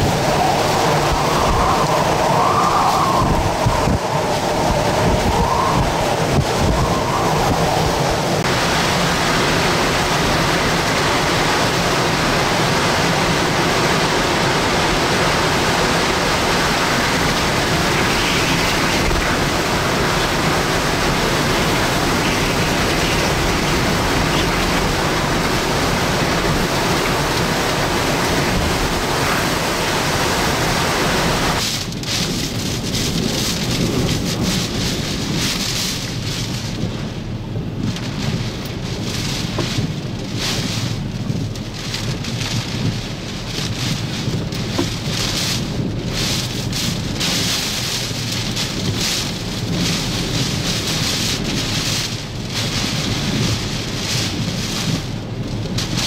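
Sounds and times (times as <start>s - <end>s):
driving rain: 0.0s - 56.0s
wind howling: 0.0s - 56.0s.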